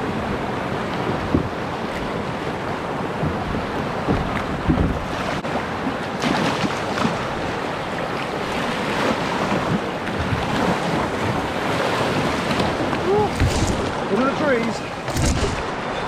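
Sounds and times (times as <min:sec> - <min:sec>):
fast water rushing: 0:00.0 - 0:16.0
water splashing at kayak bow: 0:00.0 - 0:16.0.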